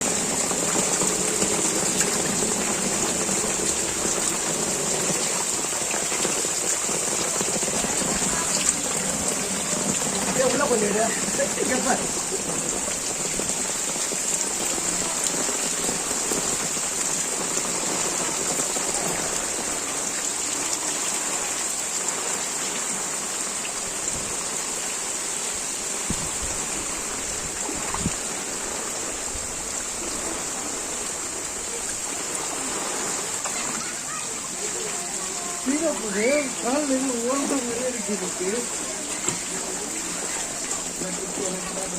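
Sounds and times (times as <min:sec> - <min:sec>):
heavy rain hissing: 0:00.0 - 0:41.9
running floodwater: 0:00.0 - 0:41.9.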